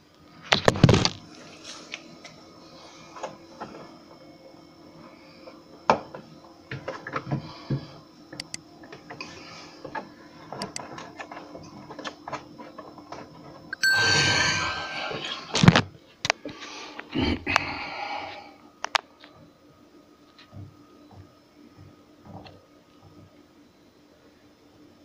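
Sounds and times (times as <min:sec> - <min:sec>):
refrigerator low hum: 0:00.0 - 0:25.0.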